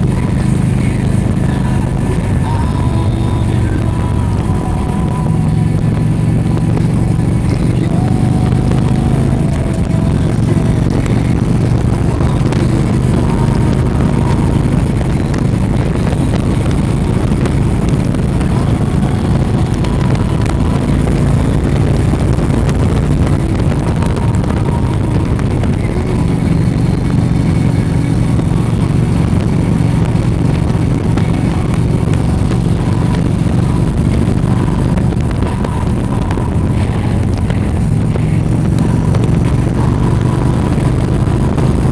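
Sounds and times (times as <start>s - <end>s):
vehicle engine droning: 0.0s - 41.9s.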